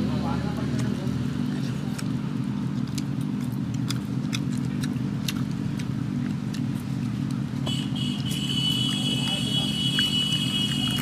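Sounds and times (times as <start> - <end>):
low motor rumble: 0.0 - 11.0
eating clicks and smacks: 0.5 - 7.6, 8.2 - 11.0.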